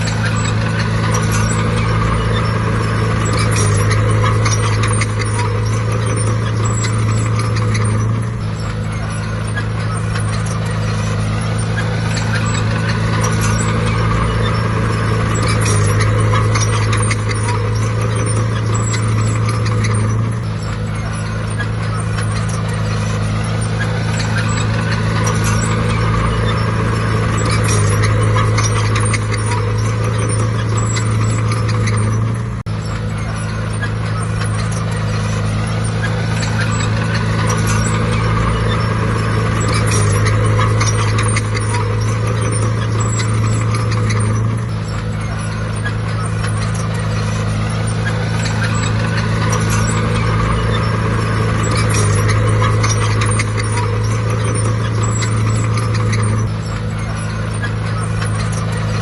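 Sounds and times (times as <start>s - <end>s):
diesel engine running under load: 0.0s - 59.0s
metallic clatter: 0.0s - 59.0s.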